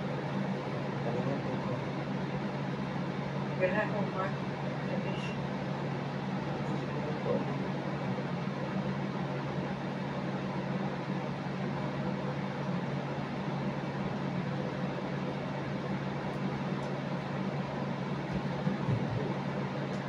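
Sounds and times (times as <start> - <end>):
electrical motor hum: 0.0 - 20.0.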